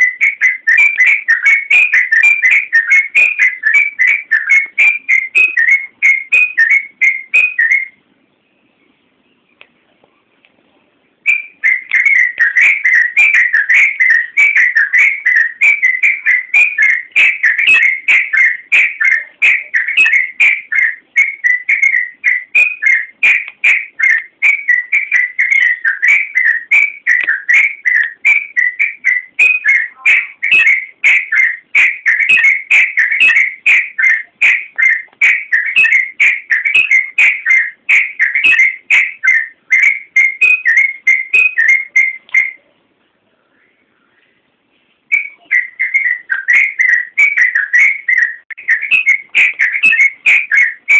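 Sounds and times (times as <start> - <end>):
bird singing bubbling whistles: 0.0 - 8.0, 11.3 - 42.6, 45.1 - 50.9.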